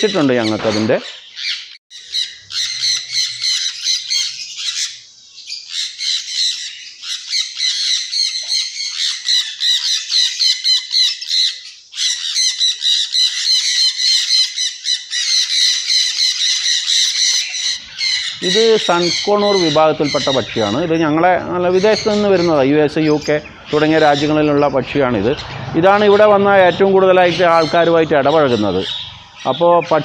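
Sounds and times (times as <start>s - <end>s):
parrots screeching: 0.0s - 30.0s.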